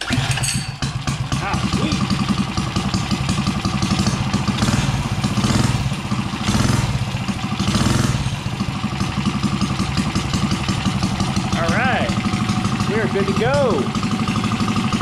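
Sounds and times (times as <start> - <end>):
engine throttle blips: 0.0 - 15.0
small engine idling: 0.0 - 15.0.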